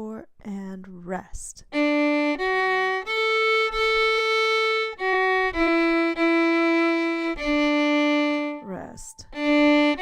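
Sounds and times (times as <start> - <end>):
violin slow bowed notes: 1.7 - 10.0.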